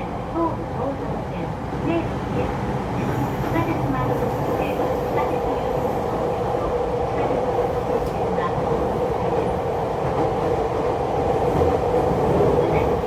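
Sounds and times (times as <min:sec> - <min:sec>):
train hum: 0:00.0 - 0:13.0
train wheels rumbling on rail: 0:00.0 - 0:13.0.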